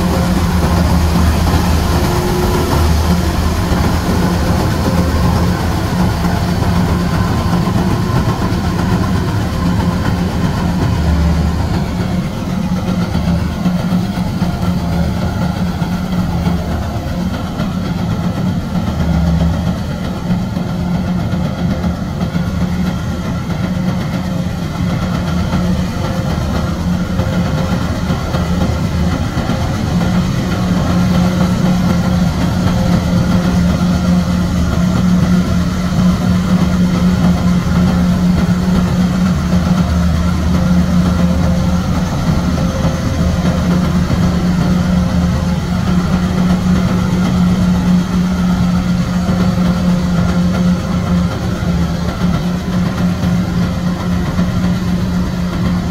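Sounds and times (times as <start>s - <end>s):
combine harvester engine droning: 0.0s - 55.9s.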